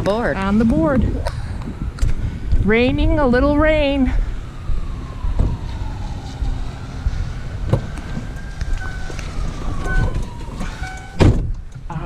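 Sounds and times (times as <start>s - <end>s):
vehicle engine rumble: 0.0s - 12.0s
faint rising and falling tone: 0.9s - 11.2s.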